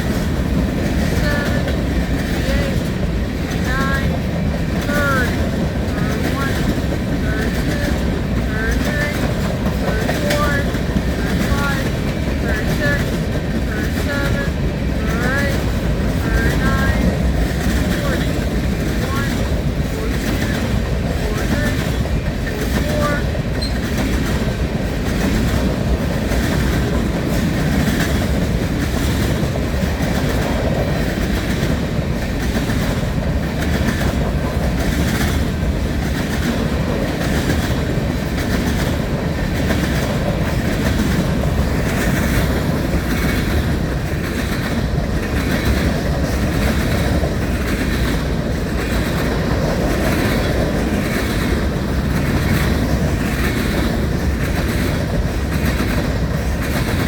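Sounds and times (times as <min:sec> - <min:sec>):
freight train rumbling past: 0:00.0 - 0:57.0
wheels clickety-clack: 0:00.0 - 0:57.0.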